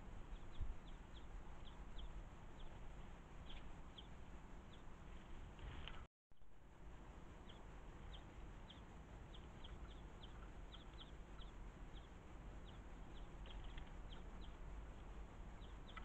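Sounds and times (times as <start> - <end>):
steady low rumble: 0.0 - 16.0
small bird chirping: 0.1 - 6.5, 7.3 - 16.0.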